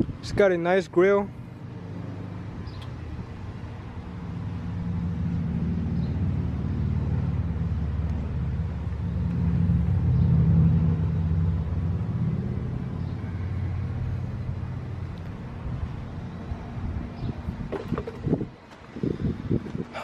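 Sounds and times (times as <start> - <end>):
engine rumbling: 0.0 - 20.0.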